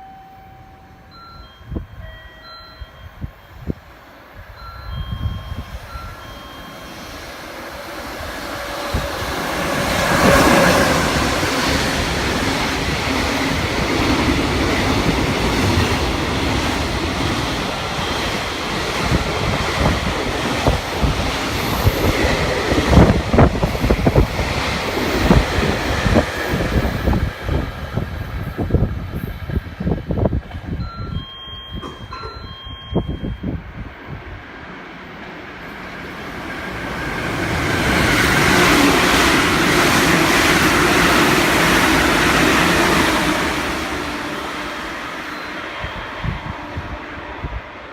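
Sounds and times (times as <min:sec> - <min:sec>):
trains passing: 0:00.0 - 0:47.9
wheels rushing on rail: 0:00.0 - 0:47.9.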